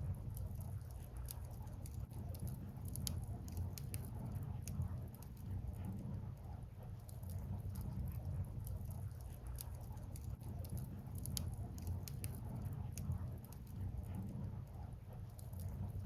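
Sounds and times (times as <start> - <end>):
firewood crackling and popping: 0.0 - 6.1, 7.0 - 14.2, 15.3 - 16.0.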